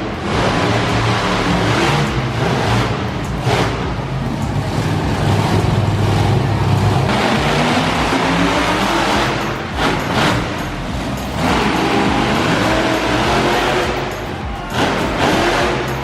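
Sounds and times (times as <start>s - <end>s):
monster truck engine running: 0.0s - 16.0s.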